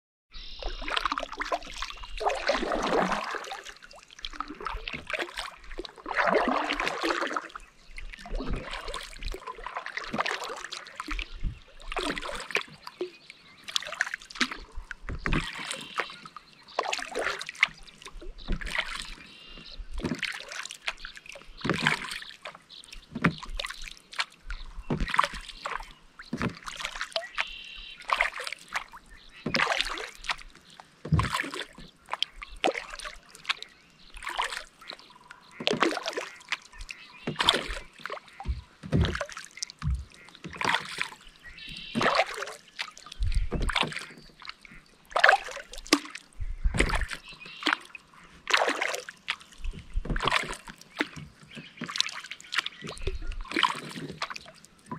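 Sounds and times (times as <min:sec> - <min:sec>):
paddle strokes splashing water: 0:00.4 - 0:54.9
dripping water: 0:00.5 - 0:54.9.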